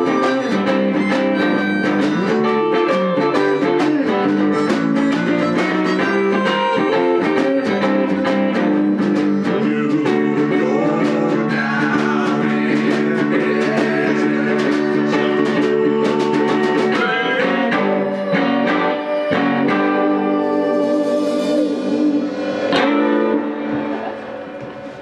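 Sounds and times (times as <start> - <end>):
electric guitar: 0.0 - 25.0
harmonica long held notes: 0.0 - 25.0.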